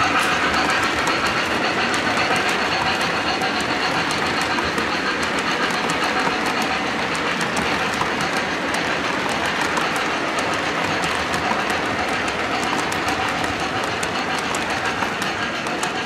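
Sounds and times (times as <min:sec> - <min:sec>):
model train wheels rumbling: 0:00.0 - 0:16.0
wheels clicking over rail joints: 0:00.0 - 0:16.0.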